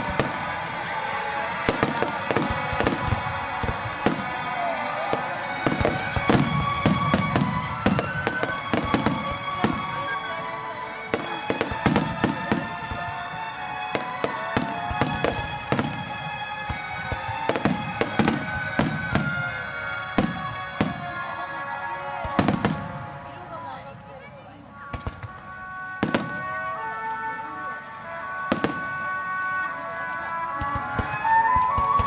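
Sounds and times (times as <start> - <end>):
music playing: 0.0 - 24.1, 24.7 - 32.0
fireworks bangs and crackles: 0.0 - 24.2, 24.8 - 32.0.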